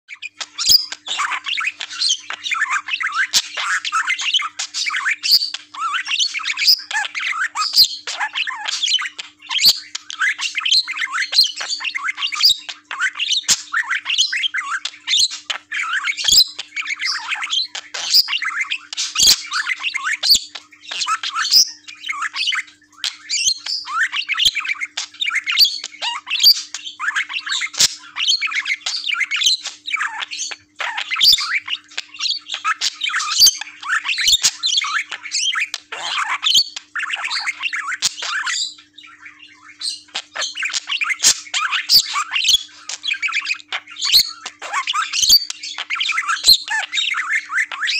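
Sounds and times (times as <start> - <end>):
budgerigar chattering: 0.1 - 47.9.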